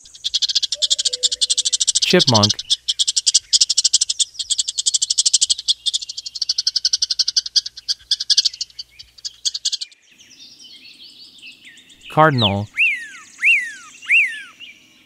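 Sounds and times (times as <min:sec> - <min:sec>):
squirrel chip calls: 0:00.0 - 0:10.0, 0:12.1 - 0:14.7.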